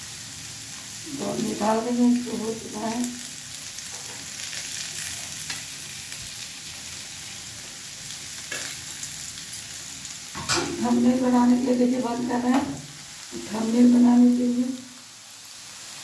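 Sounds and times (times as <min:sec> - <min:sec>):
potatoes sizzling in oil: 0:00.0 - 0:16.0.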